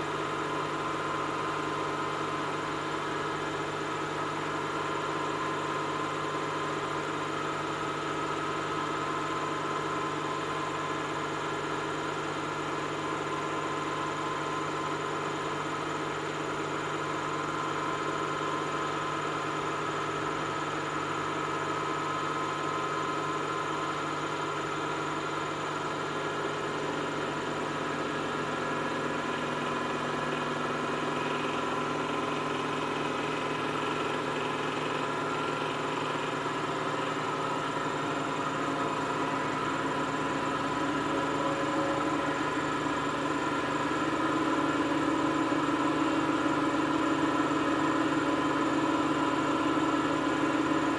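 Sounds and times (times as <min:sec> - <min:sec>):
washing machine running: 0:00.0 - 0:50.9.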